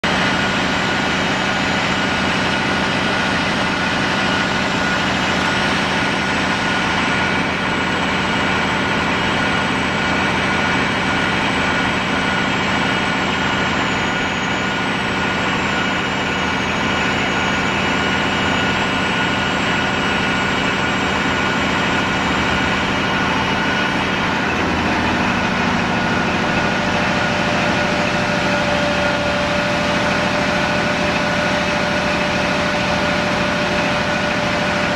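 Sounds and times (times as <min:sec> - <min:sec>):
diesel engine running: 0:00.0 - 0:34.9
whining tones: 0:00.2 - 0:34.9.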